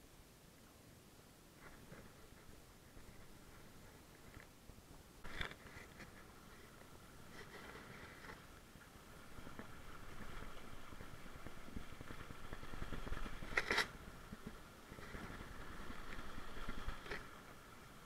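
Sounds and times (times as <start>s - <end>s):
rush of water and wind: 0.1s - 18.0s.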